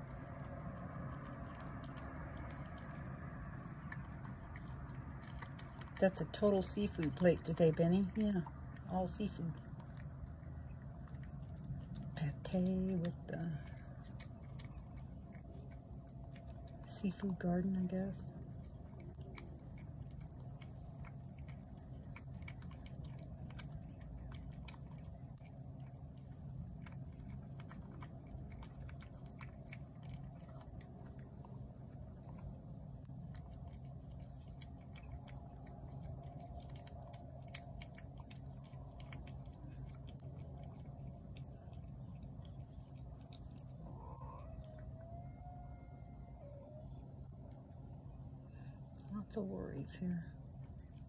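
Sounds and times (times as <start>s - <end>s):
cat chewing wet food: 0.0s - 45.1s, 50.4s - 51.0s
low steady hum: 0.0s - 51.0s.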